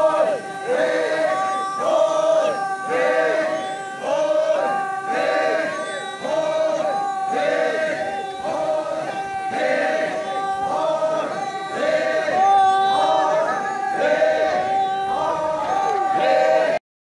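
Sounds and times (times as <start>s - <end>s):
group chanting folk song: 0.0s - 16.8s.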